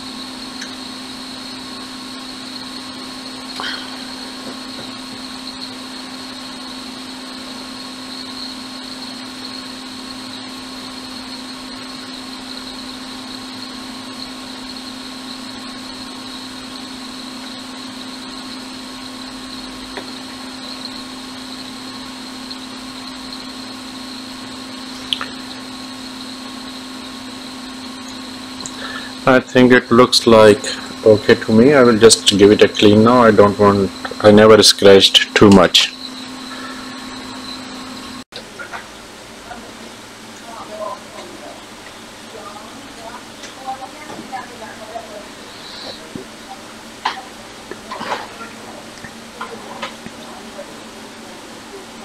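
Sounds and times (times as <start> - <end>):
electric fan motor whirring: 0.0 - 52.0.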